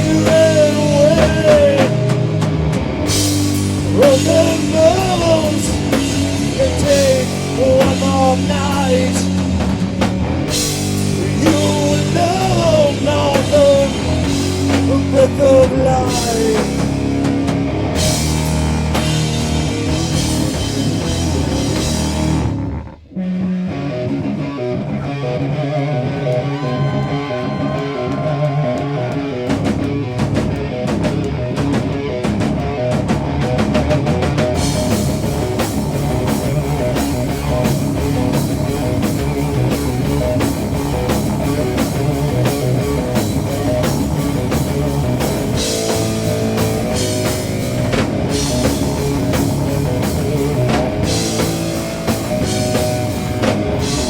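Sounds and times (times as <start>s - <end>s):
drum kit playing: 0.0s - 23.0s, 27.4s - 54.0s
bass guitar: 0.0s - 54.0s
distorted electric guitar riffing: 0.0s - 54.0s.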